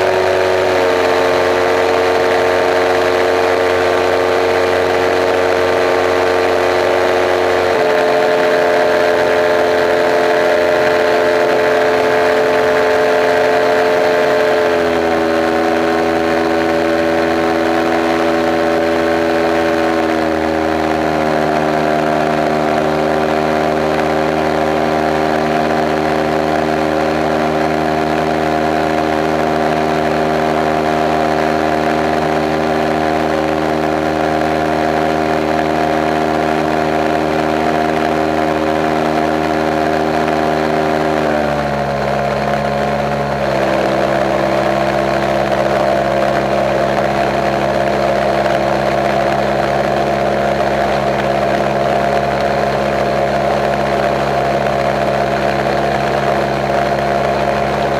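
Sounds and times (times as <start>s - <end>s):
light aircraft engine in flight: 0.0s - 57.9s.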